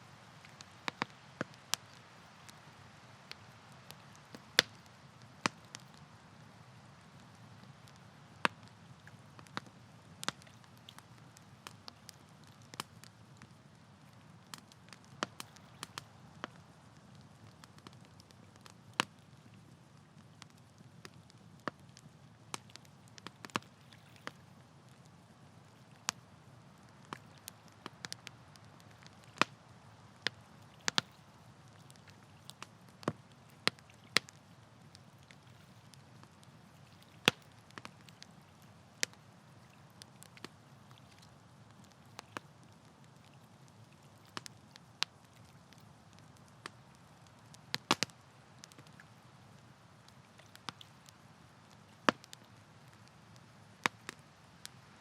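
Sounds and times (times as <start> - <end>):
low rumble of fire: 0.0 - 55.0
burning wood popping and snapping: 9.4 - 54.9.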